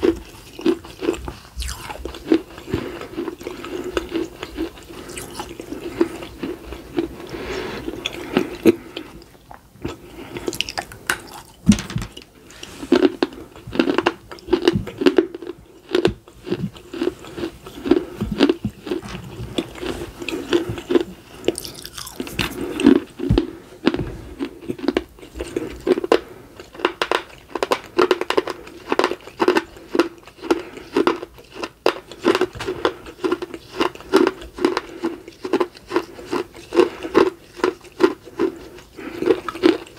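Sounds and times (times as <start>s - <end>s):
crunching and chewing clay: 0.0s - 39.9s.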